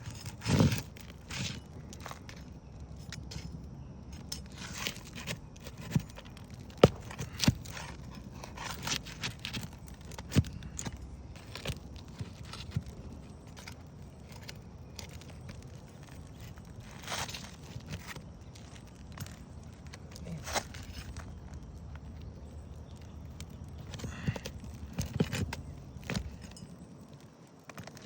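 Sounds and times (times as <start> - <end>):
shingles scraping: 0.0 - 28.0.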